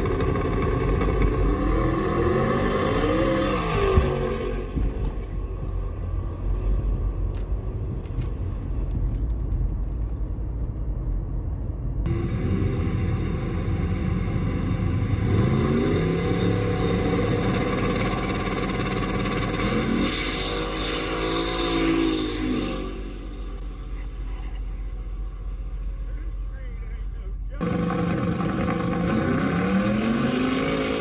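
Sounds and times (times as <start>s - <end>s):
car engine accelerating: 0.0s - 9.1s, 11.2s - 26.4s, 27.6s - 31.0s
car engines at full throttle: 0.0s - 31.0s.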